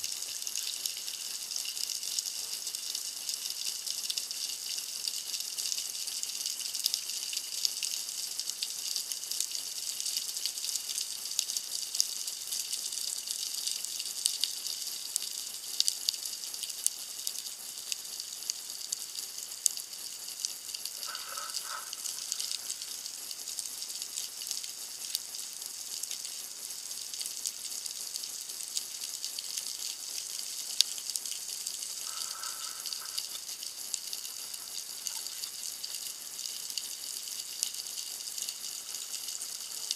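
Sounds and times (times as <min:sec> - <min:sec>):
underwater crackle of high clicks: 0:00.0 - 0:39.9.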